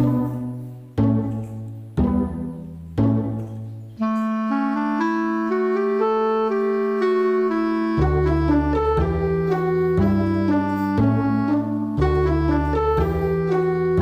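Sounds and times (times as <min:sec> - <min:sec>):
reedy wind instrument melody: 0:00.0 - 0:14.0.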